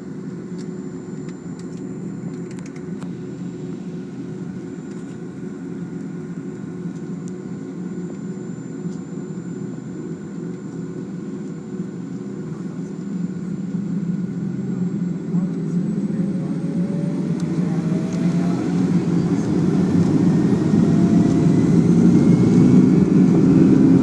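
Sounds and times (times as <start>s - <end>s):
jet engines and airflow rumble: 0.0s - 24.0s.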